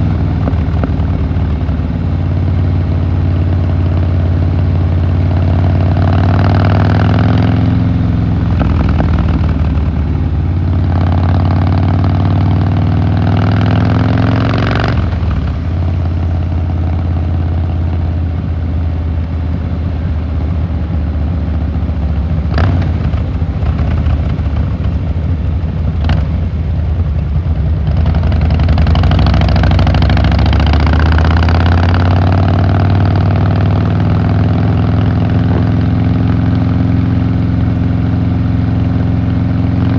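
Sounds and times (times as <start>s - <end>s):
motorcycle exhaust revving: 0.0s - 39.9s.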